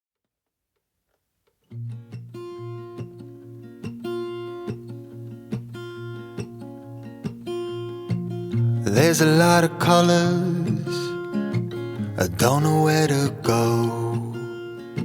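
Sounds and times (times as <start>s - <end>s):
acoustic guitar strumming: 1.7s - 15.0s.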